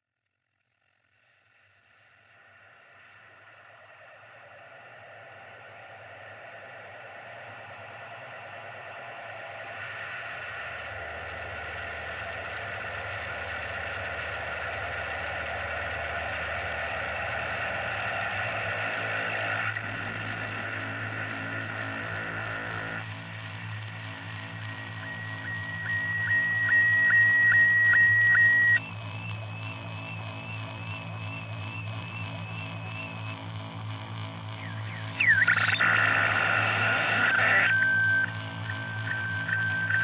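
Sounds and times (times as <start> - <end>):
droning noise music: 1.4 - 40.0.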